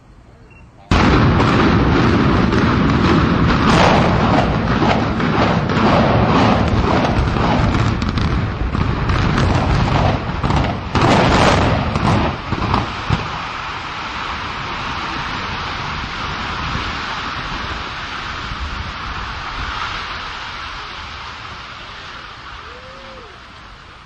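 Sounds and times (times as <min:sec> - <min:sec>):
rumble with rapid booms and bangs: 0:00.9 - 0:22.5.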